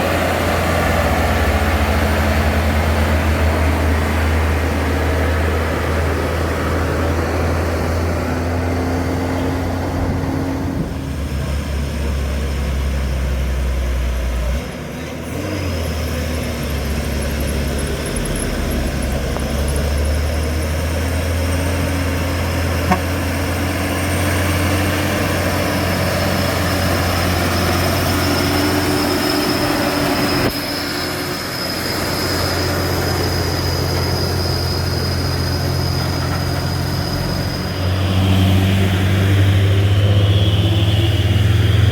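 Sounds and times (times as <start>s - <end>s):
truck diesel engine humming: 0.0s - 41.9s.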